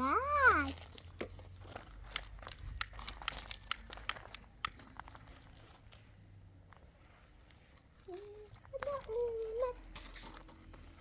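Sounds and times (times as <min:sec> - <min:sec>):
sharp clicks and crinkling: 0:00.4 - 0:06.1, 0:06.7 - 0:11.0.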